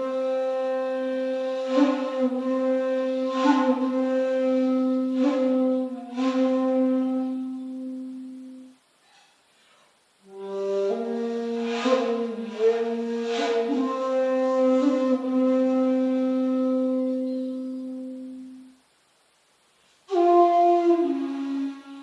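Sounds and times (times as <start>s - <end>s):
breathy bamboo flute note: 0.0s - 18.8s, 20.0s - 22.0s.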